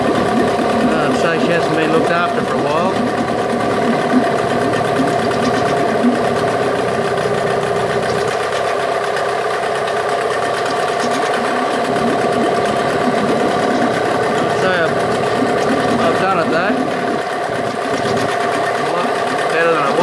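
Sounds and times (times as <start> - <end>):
cooling water streaming: 0.0 - 20.0
outboard motor running: 0.0 - 20.0.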